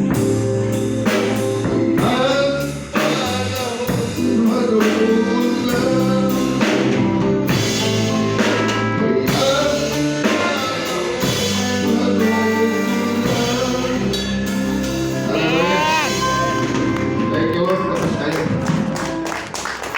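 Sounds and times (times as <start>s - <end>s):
band with drum kit: 0.0s - 19.9s
person singing: 1.6s - 18.7s.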